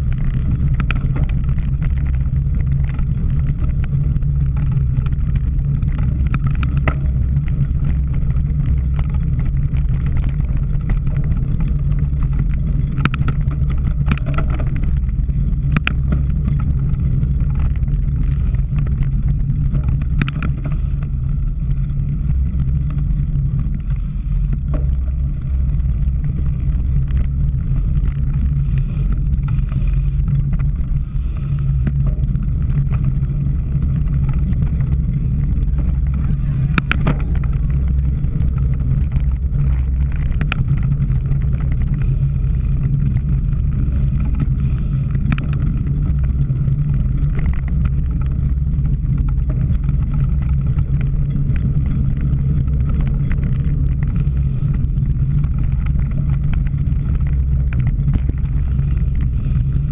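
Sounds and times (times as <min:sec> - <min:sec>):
bike clicks and rattles: 0:00.0 - 0:59.9
wind buffeting microphone: 0:00.0 - 0:59.9.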